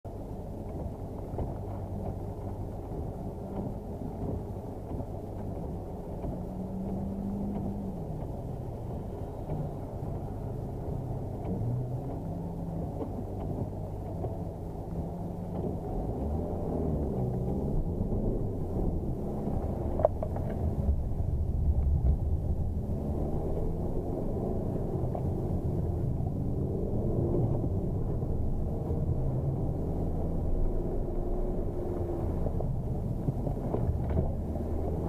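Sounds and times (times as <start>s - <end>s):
car engine idling: 0.1s - 35.0s.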